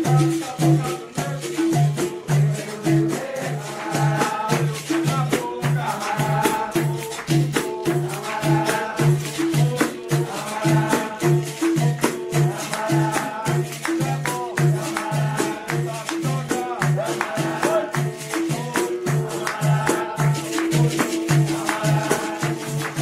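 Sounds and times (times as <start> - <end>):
berimbau: 0.0 - 23.0
hand percussion: 0.0 - 23.0.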